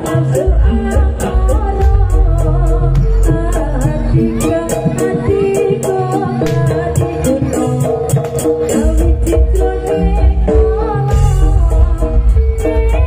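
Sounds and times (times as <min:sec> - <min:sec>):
gamelan music: 0:00.0 - 0:13.0
low drum and gong beats: 0:00.0 - 0:13.0.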